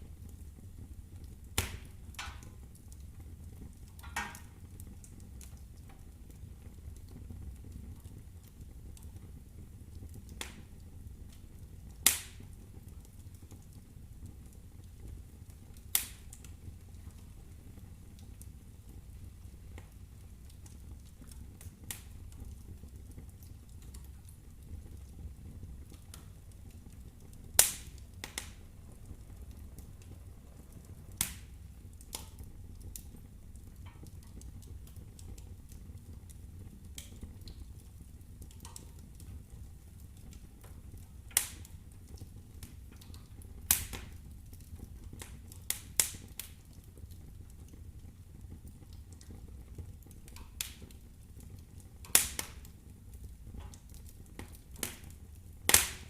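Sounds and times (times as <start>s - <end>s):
low fire rumble: 0.0s - 56.0s
wood fire crackling: 0.0s - 56.0s.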